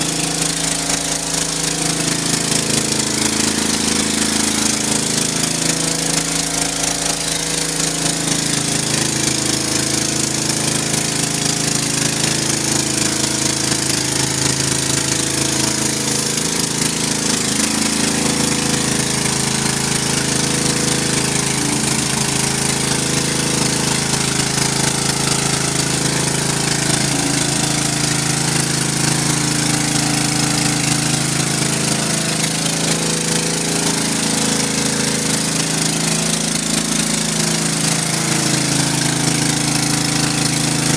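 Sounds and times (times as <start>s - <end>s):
pressure washer running: 0.0s - 40.9s
water spraying on concrete: 0.0s - 40.9s.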